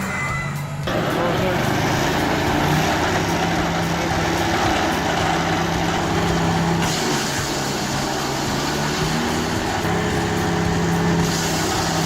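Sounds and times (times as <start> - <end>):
heavy machine engine humming: 0.8 - 12.0.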